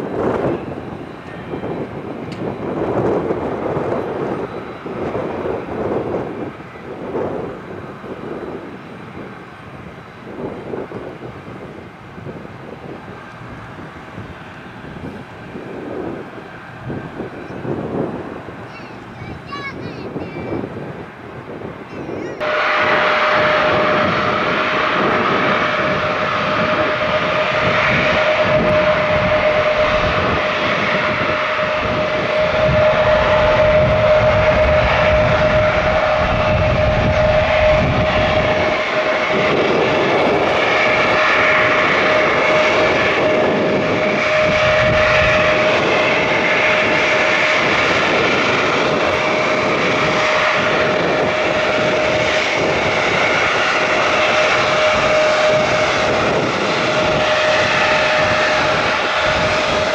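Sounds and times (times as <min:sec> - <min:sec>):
airliner engines whining: 0:00.0 - 0:59.9
wind buffeting microphone: 0:00.0 - 0:59.9.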